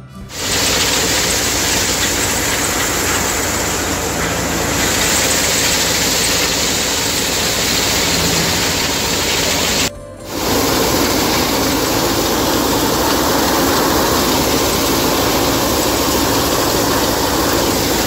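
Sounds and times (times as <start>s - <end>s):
low engine hum: 0.3s - 18.0s
threshing machine running: 0.3s - 18.0s.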